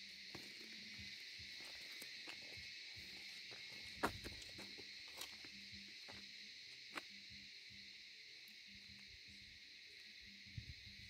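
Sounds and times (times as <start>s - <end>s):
insects chirping chorus: 0.0s - 11.0s.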